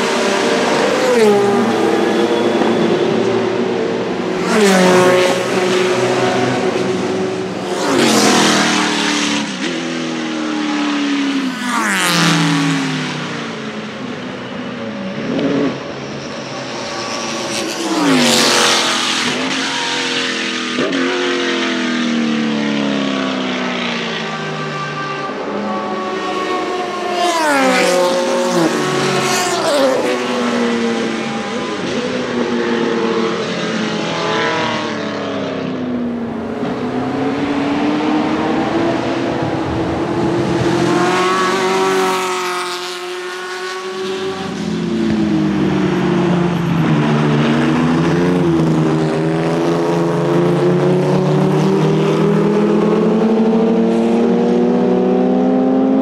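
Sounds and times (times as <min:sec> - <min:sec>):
racing car engines passing: 0:00.0 - 0:56.0.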